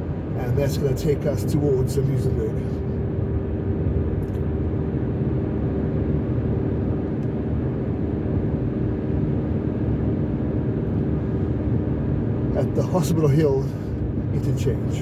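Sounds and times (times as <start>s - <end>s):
car road noise from inside: 0.0s - 15.0s.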